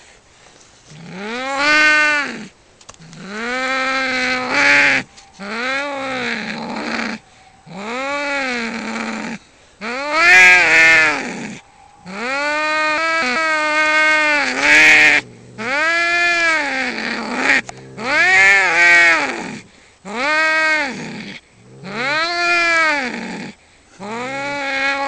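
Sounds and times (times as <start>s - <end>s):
cats yowling: 1.0s - 25.0s.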